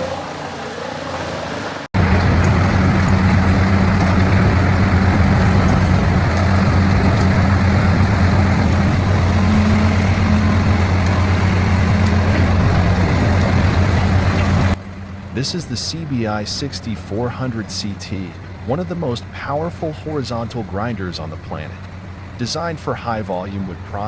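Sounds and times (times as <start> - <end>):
wood chipper running: 1.6 - 24.0.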